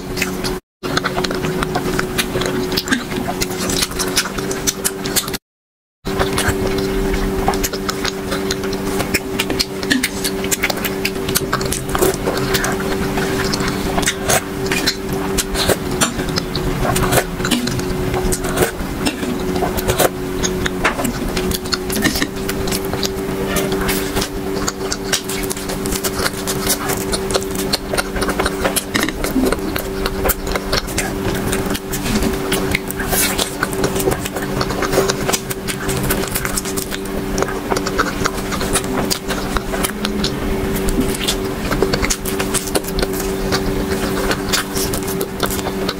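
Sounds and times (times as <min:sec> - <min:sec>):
low hum: 0:00.0 - 0:05.4, 0:06.1 - 0:45.9
mouth clicks smacks and chewing: 0:00.1 - 0:05.4, 0:06.1 - 0:45.9.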